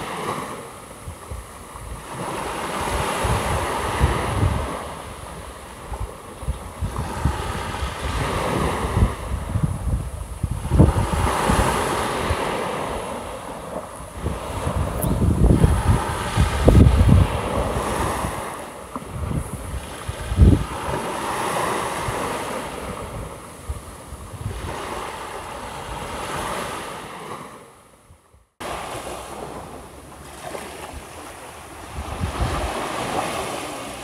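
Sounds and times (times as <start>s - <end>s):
wind buffeting microphone: 0.0s - 27.5s, 28.1s - 34.0s
waves washing up shore: 0.0s - 34.0s.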